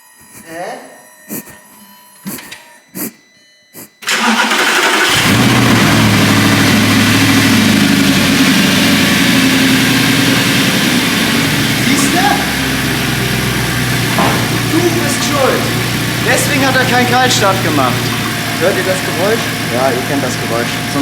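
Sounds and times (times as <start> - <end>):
car engine cranking and starting: 4.0 - 21.0
car engine idling loudly: 4.1 - 21.0.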